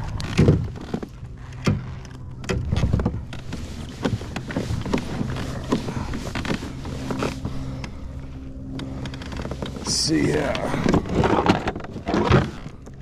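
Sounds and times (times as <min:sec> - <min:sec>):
handling knocks and rustles: 0:00.0 - 0:13.0.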